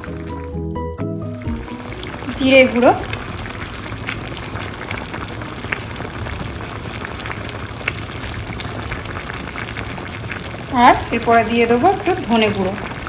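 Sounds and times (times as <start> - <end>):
chicken sizzling and bubbling in a pan: 1.4 - 13.0.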